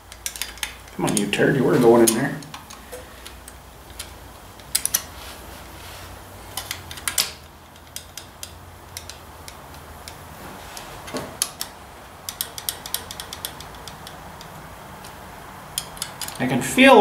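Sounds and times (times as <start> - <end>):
small metal clicks and taps: 0.0 - 1.3, 2.1 - 5.1, 6.5 - 16.4.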